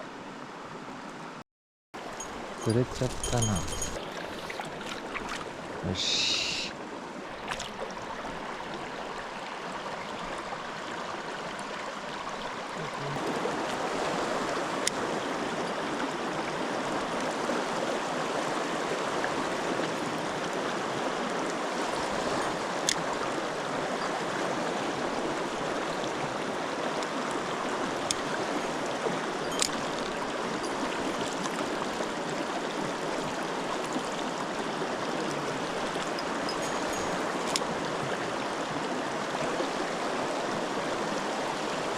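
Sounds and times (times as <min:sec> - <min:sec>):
stream rushing over rocks: 0:02.0 - 0:41.9.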